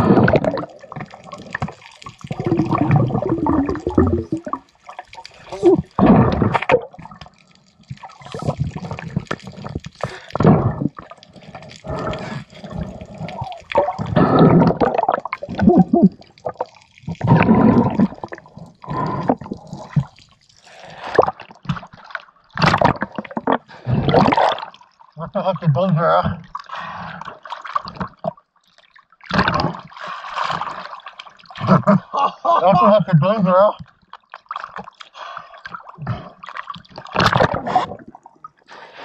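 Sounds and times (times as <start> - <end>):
water sloshing underwater: 0.0 - 32.0, 32.8 - 39.0.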